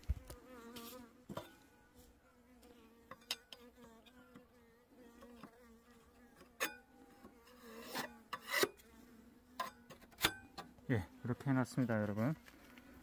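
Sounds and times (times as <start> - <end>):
bees buzzing: 0.0 - 11.8.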